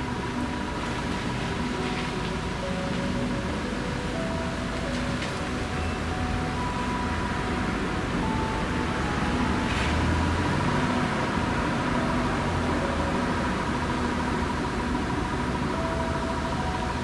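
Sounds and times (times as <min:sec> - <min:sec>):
wind rushing through trees: 0:00.0 - 0:17.0.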